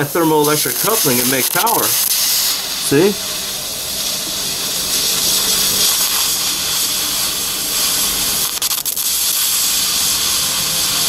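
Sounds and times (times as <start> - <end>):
gas hissing from torch nozzle: 0.0 - 11.0.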